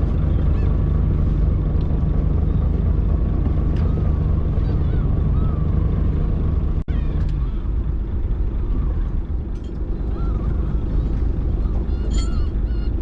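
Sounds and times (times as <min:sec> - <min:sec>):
gulls calling: 0:00.0 - 0:09.2, 0:09.8 - 0:13.0
boat engine rumbling: 0:00.0 - 0:13.0.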